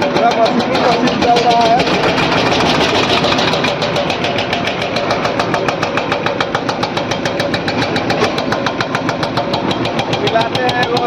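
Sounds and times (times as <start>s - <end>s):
diesel engine running: 0.0s - 11.0s
hydraulic breaker hammering rock: 0.0s - 11.0s.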